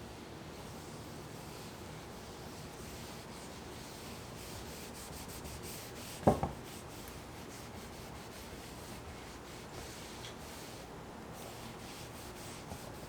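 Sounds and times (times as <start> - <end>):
faint scratching on a surface: 0.6 - 13.0.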